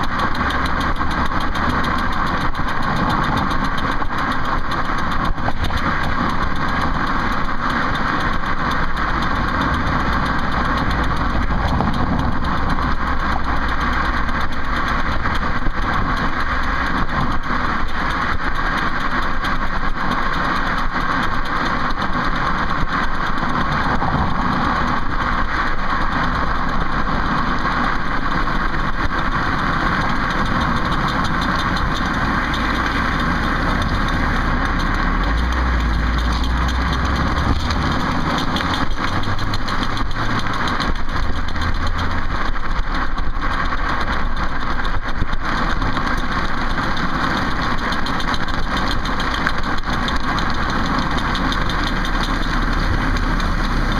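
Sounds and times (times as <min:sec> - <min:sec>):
car engine rumbling: 0:00.0 - 0:53.9
clicking from car wheel: 0:00.0 - 0:53.9.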